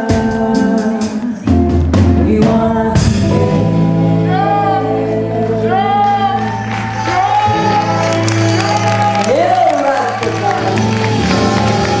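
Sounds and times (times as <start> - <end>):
live ragga band playing: 0.0 - 12.0
woman singing: 0.0 - 12.0.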